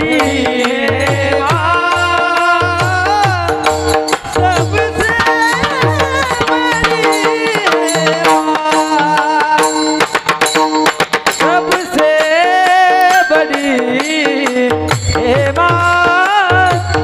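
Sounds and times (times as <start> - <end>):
instrumental melody: 0.0 - 17.0
tabla drumming: 0.0 - 17.0.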